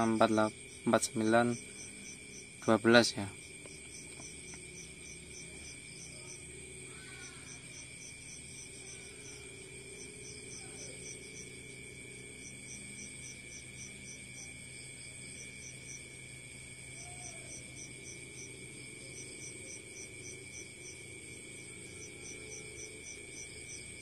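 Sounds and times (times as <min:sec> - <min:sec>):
faint low hum: 0:00.0 - 0:24.0
insect chirp pulsing: 0:00.0 - 0:24.0
insect high trill: 0:00.0 - 0:24.0.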